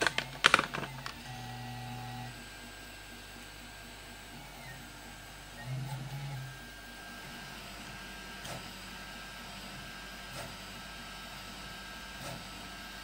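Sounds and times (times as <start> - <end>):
printer mechanical whir: 0.0 - 13.0.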